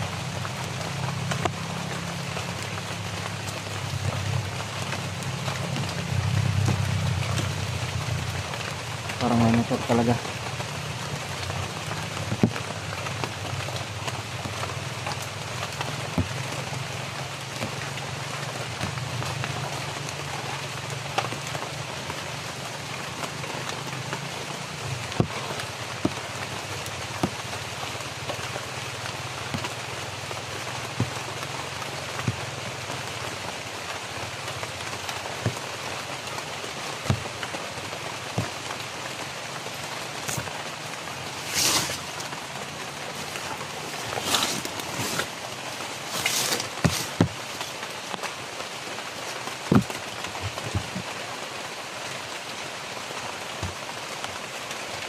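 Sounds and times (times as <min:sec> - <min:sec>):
distant motorcycle engine hum: 0:00.0 - 0:51.4
rain falling on foliage: 0:00.0 - 0:55.0.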